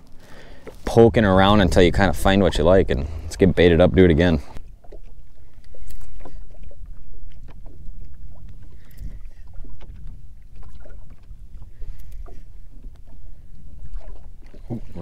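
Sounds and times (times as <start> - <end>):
small waves lapping against hull: 0.0 - 15.0
wind rumble on microphone: 0.8 - 15.0.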